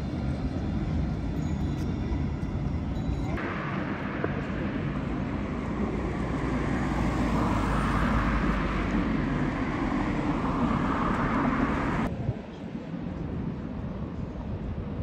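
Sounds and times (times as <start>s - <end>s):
street noise: 0.0s - 15.0s
tram rolling rumble: 0.0s - 15.0s.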